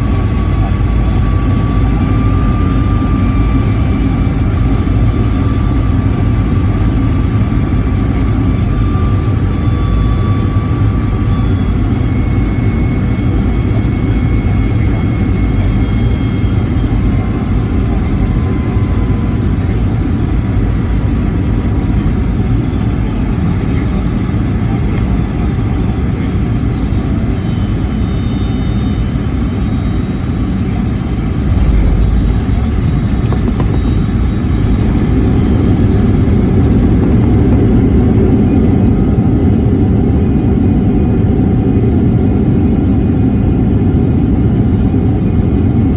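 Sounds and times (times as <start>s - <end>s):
faint whining tones: 0.0s - 38.7s
jet engine rumble in cabin: 0.0s - 45.9s.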